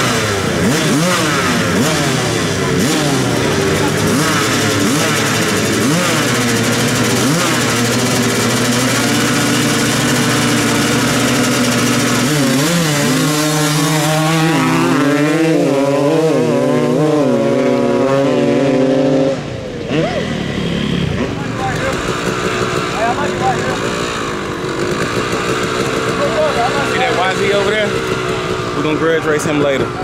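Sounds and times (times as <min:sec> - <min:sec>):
dirt bikes revving and accelerating: 0:00.0 - 0:30.0.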